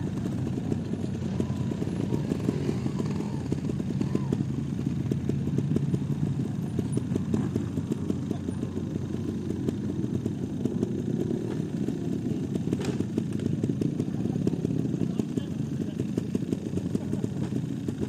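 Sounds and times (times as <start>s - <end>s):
motorcycles idling: 0.0s - 18.0s.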